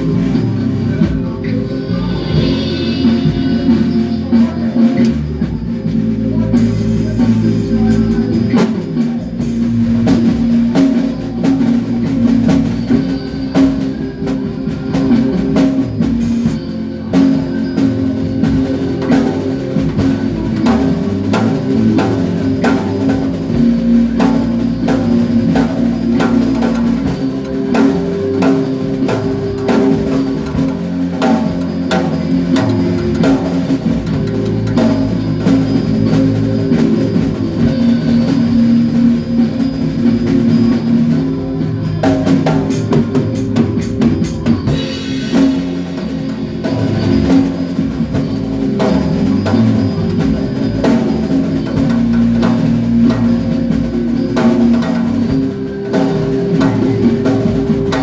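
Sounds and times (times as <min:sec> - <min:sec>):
band playing: 0:00.0 - 0:58.0
drum kit beat: 0:00.0 - 0:58.0
low bass notes: 0:00.0 - 0:58.0.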